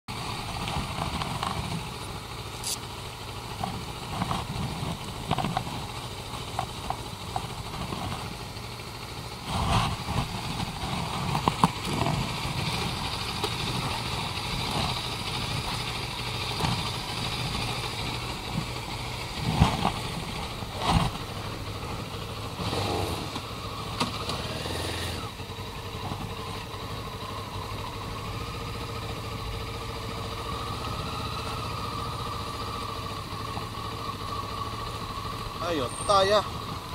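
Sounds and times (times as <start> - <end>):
motorcycle engine running: 0.1 - 36.9.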